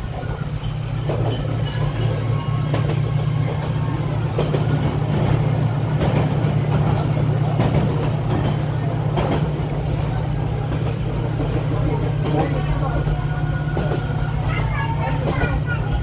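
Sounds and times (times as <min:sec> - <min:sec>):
passenger train rumbling: 0:00.0 - 0:16.0.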